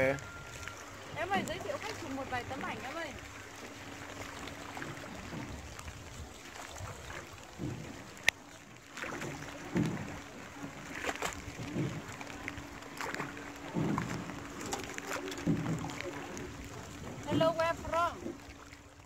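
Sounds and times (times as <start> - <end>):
oars pulling through water: 0.0 - 19.0.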